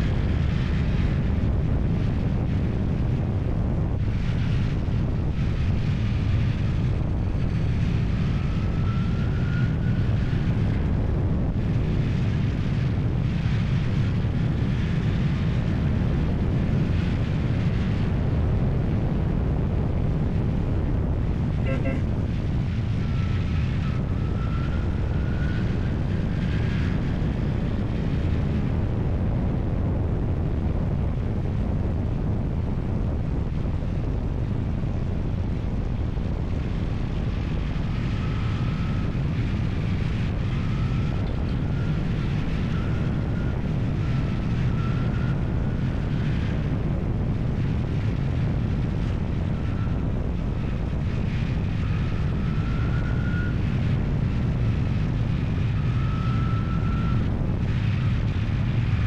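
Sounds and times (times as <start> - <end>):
engine rumbling: 0.0 - 59.0
faint whine: 0.0 - 59.0.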